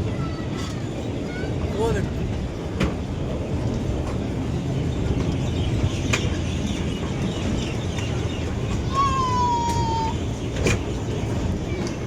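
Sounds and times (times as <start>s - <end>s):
small train rumbling: 0.0s - 12.0s.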